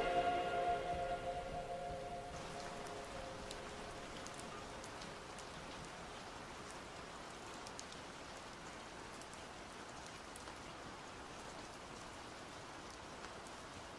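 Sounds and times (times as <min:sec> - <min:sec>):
steady rain hiss: 0:00.0 - 0:13.9.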